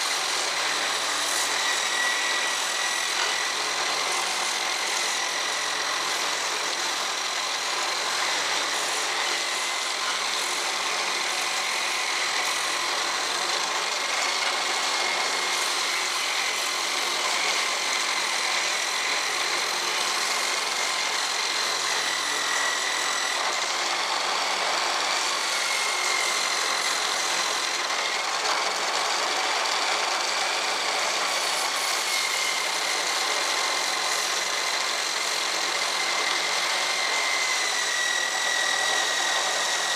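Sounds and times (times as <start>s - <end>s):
electric drill whining: 0.0s - 39.9s.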